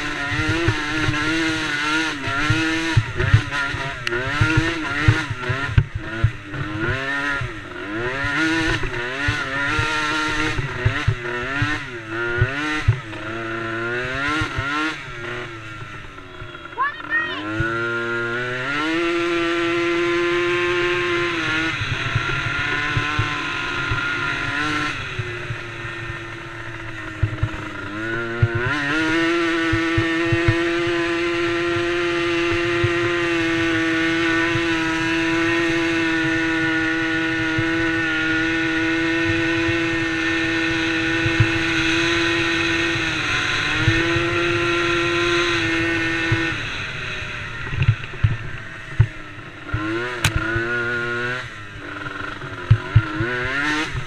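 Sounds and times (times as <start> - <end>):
quad engine revving high: 0.0 - 54.0.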